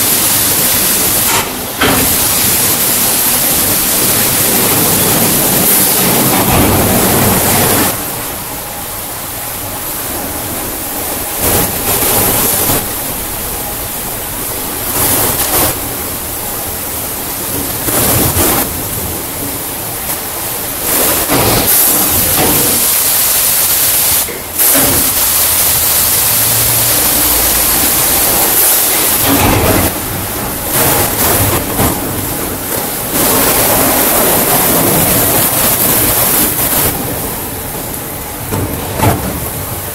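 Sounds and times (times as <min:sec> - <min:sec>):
water spraying: 0:00.0 - 0:39.9.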